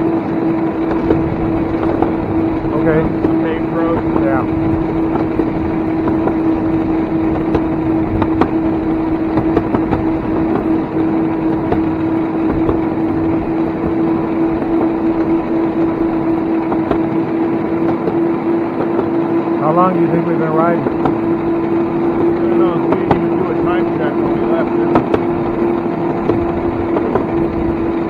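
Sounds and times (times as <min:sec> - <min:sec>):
electric motor whine: 0:00.0 - 0:28.0
wheels rumbling on rails: 0:00.0 - 0:28.0.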